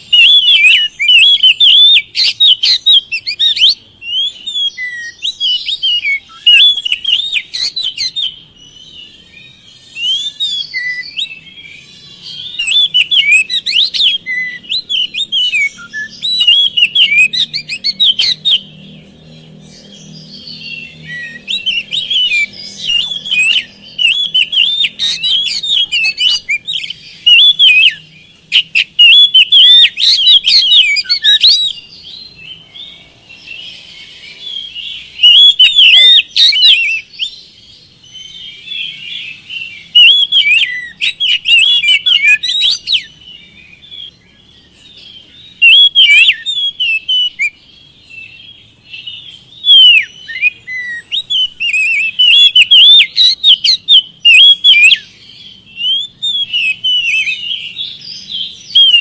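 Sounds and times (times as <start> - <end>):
bird singing whistled phrases and trills: 0.0 - 59.0.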